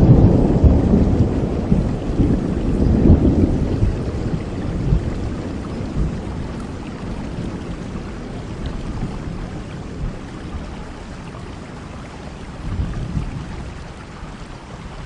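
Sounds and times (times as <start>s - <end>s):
low thunder rumble: 0.0s - 15.0s
rain falling: 0.0s - 15.0s.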